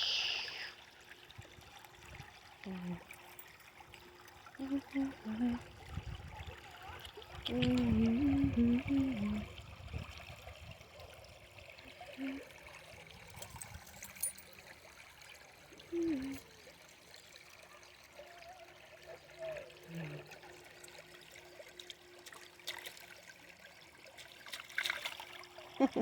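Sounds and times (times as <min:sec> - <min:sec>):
small stream trickling: 0:00.0 - 0:26.0.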